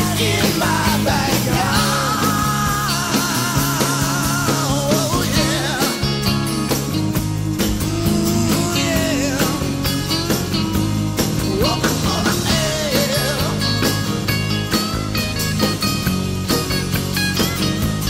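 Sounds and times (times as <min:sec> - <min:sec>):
rock music: 0:00.0 - 0:18.0
steady drum beat: 0:00.0 - 0:18.0.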